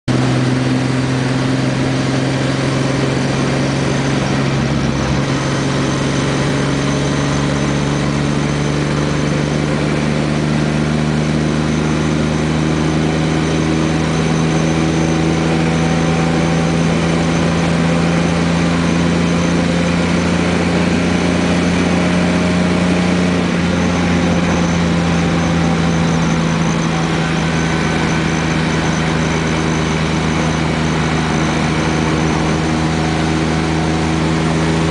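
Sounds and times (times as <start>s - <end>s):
road and tyre noise: 0.0s - 34.9s
low drone: 0.1s - 34.9s.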